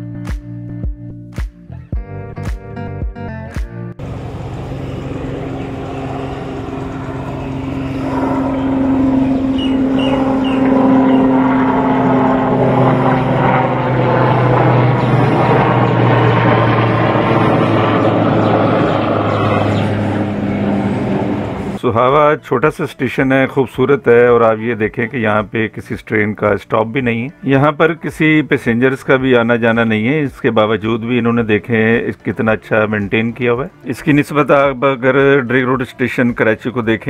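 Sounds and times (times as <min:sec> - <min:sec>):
helicopter flying overhead: 0:03.9 - 0:37.0.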